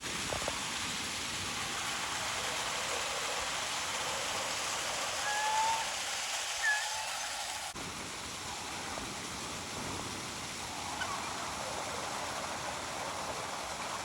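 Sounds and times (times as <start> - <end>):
water flowing in a brook: 0.0 - 14.0.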